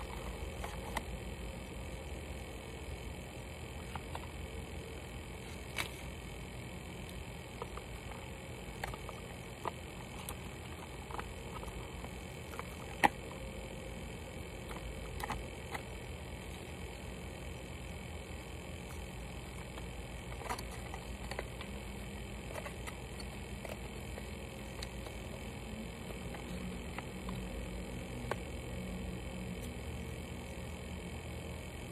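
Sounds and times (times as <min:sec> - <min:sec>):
low background hum: 0:00.0 - 0:31.9.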